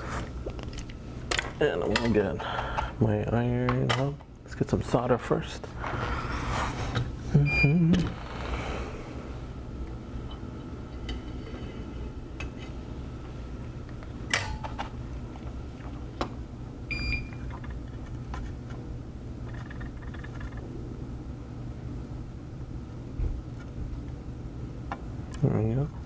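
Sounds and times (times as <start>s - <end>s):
equipment low hum: 0.0s - 26.0s.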